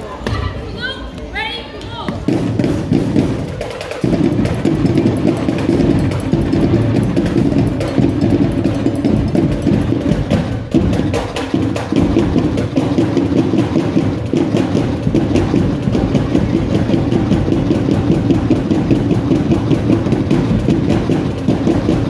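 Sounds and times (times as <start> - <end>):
drumline playing percussion cadence: 0.0 - 22.0.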